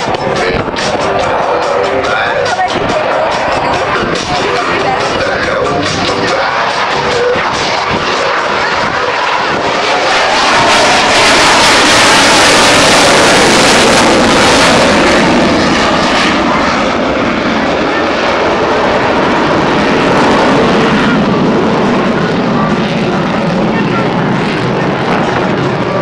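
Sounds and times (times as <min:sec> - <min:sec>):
military jet engine roar: 0:00.0 - 0:26.0.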